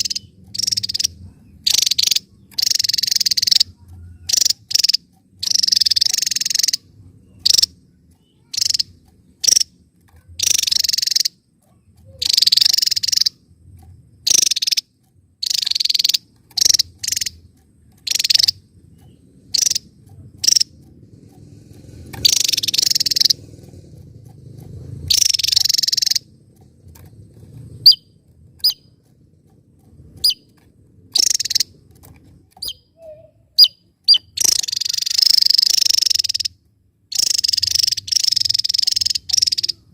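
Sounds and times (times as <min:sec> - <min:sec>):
bird buzzy song bursts: 0:00.0 - 0:29.1, 0:30.1 - 0:39.9.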